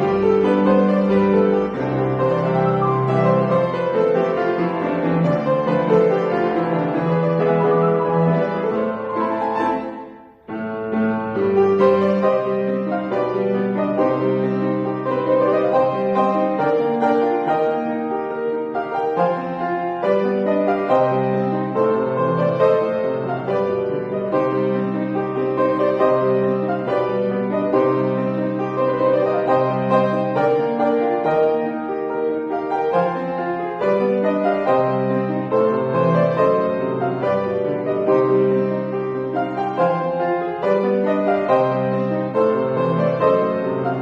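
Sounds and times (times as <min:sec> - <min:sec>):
solo piano playing: 0:00.0 - 0:44.0.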